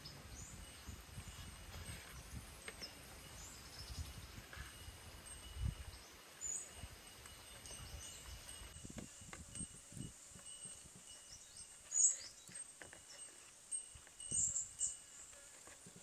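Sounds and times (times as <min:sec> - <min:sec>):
faint bird chirps: 0:00.0 - 0:08.7, 0:10.5 - 0:13.5, 0:14.2 - 0:15.4
steady insect tone: 0:00.0 - 0:16.0.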